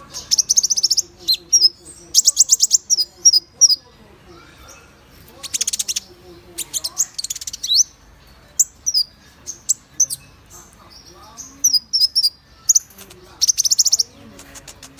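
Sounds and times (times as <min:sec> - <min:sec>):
bird chirping and trilling: 0:00.0 - 0:14.9.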